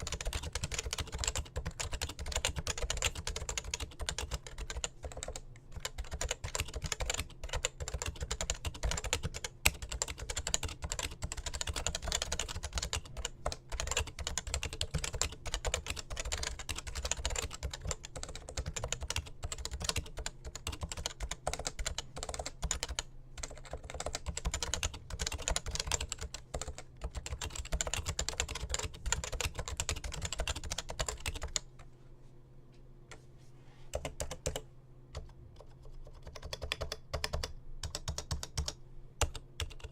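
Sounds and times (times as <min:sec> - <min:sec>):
fast keyboard typing: 0:00.0 - 0:31.6, 0:33.9 - 0:34.6, 0:35.2 - 0:39.9.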